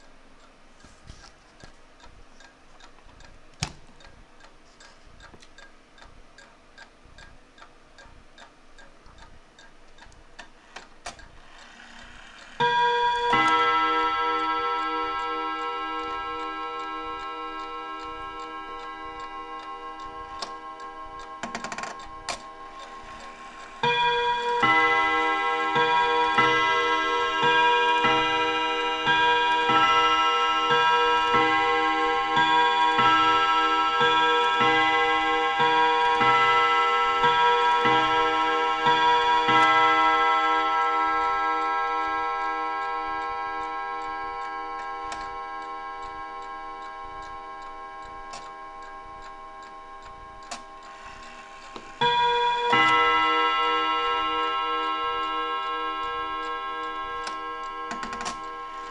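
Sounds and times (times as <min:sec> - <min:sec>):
clock ticking: 0:00.0 - 0:00.9, 0:01.5 - 0:58.9
clock chiming on gong rods: 0:11.1 - 0:58.9.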